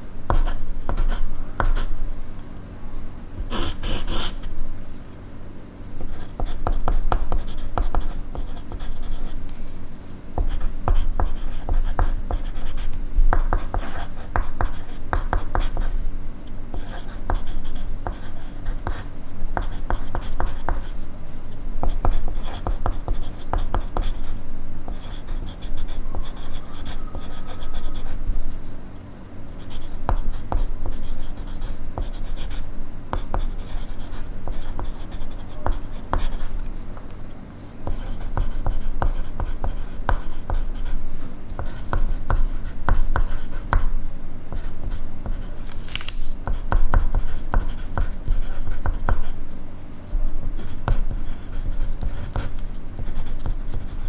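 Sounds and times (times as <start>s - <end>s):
pencil writing on paper: 0.3s - 1.9s, 3.4s - 4.4s, 6.0s - 9.4s, 10.4s - 16.0s, 16.7s - 21.0s, 21.8s - 28.2s, 29.6s - 45.6s, 46.4s - 49.4s, 50.6s - 54.0s.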